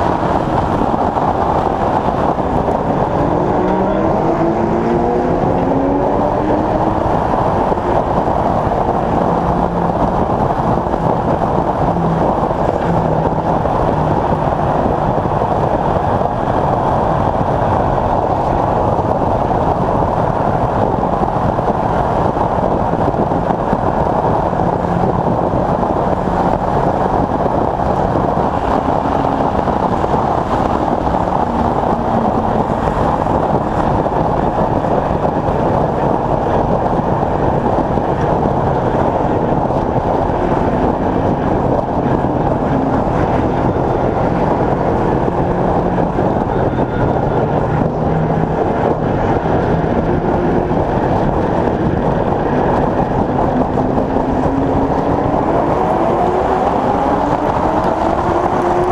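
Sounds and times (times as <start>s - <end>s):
race car engine: 0.0s - 58.9s
wind and road noise: 0.0s - 58.9s.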